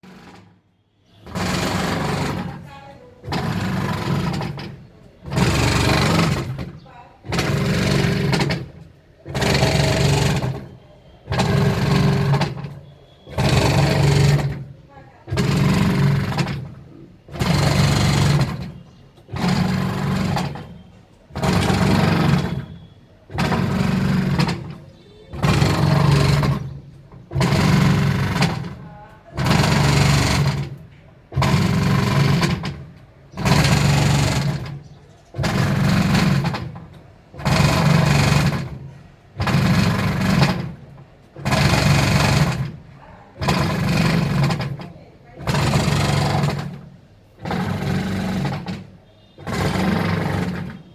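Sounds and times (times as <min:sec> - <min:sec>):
washing machine running in pulses: 0:01.2 - 0:42.8.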